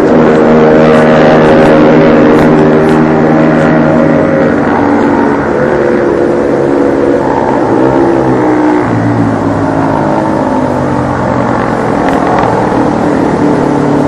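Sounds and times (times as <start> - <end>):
motor engine running: 0.0 - 14.0.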